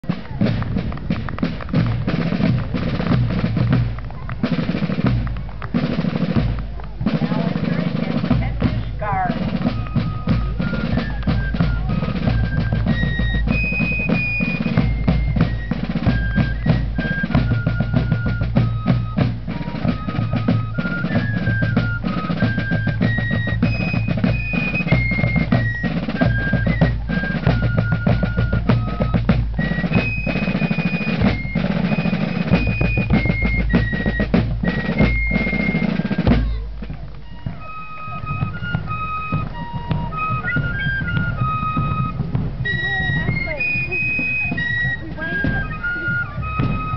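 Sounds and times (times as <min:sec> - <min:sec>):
bass drum beats: 0:00.0 - 0:35.4, 0:36.0 - 0:46.9
fifes playing a march melody: 0:00.0 - 0:46.9
snare drums rolling: 0:00.0 - 0:46.9.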